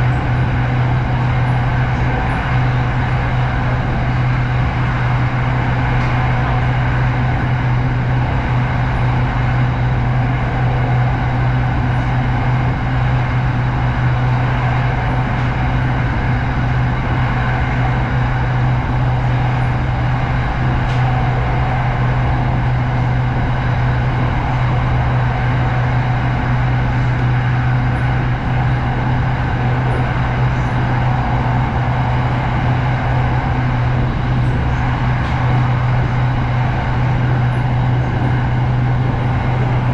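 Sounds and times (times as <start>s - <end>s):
electric train rumble: 0.0s - 39.9s
steady low hum: 0.0s - 39.9s.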